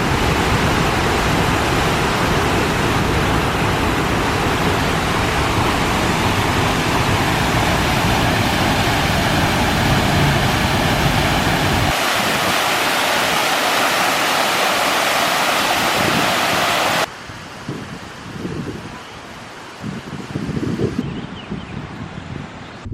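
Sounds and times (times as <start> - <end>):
waterfall rushing: 0.0 - 20.4
wind gusting on microphone: 0.0 - 22.9.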